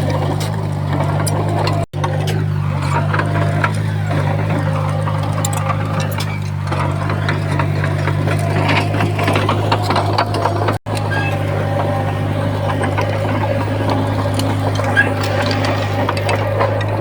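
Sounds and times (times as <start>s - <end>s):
bulldozer diesel engine running: 0.0s - 17.0s
machine clanking and rattling: 0.0s - 17.0s.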